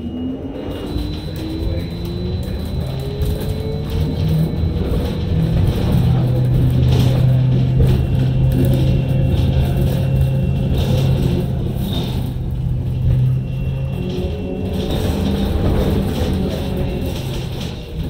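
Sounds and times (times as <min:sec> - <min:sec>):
bus cabin hum: 0:00.0 - 0:18.0
road rumble: 0:00.0 - 0:18.0
rattles: 0:00.8 - 0:18.0.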